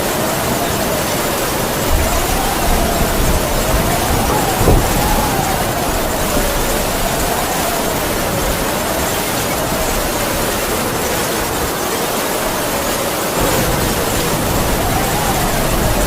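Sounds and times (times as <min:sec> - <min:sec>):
heavy rain hissing: 0:00.0 - 0:16.0
howling wind whistling: 0:00.0 - 0:16.0.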